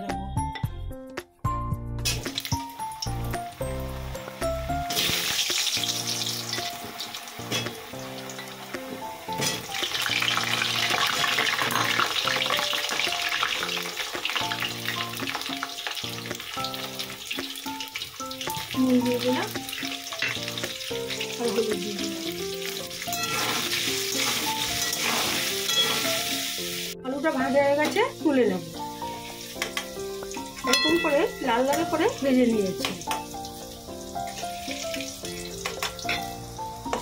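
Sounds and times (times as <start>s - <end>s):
soft background music: 0.0s - 37.0s
potatoes deep-frying in oil: 2.1s - 37.0s.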